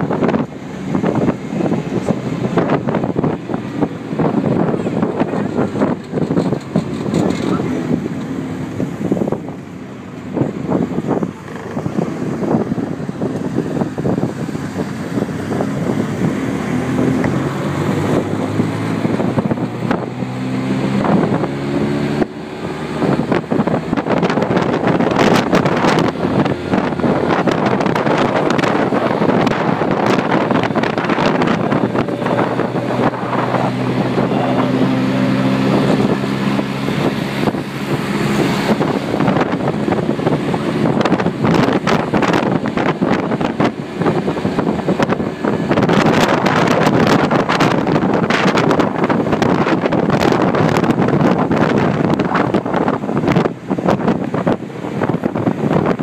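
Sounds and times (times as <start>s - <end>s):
wind buffeting the microphone: 0.0s - 56.0s.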